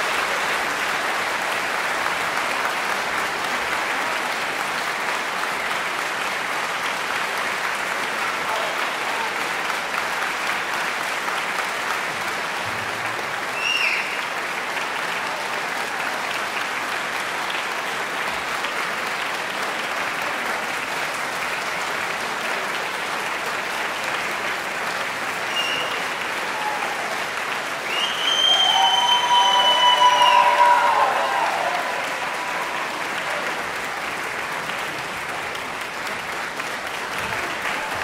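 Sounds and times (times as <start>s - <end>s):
audience applauding: 0.0s - 38.0s.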